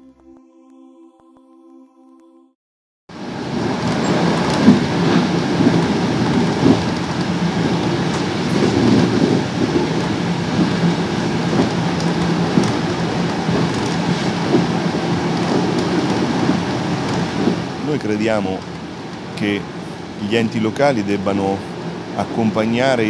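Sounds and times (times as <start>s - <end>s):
train wheels rumbling on rails: 3.1s - 23.0s.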